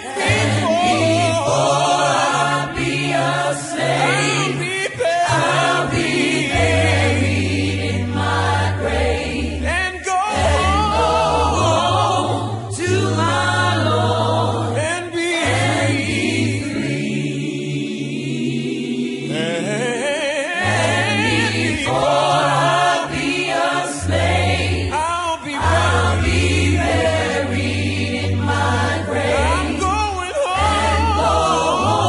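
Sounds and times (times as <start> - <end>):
choir singing gospel: 0.0 - 32.0.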